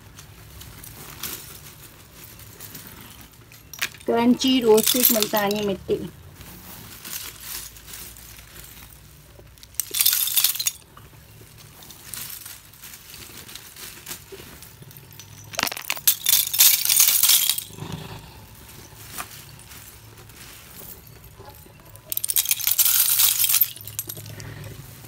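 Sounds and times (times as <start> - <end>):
clay shards clinking and rattling: 0.6 - 6.0, 7.0 - 25.0.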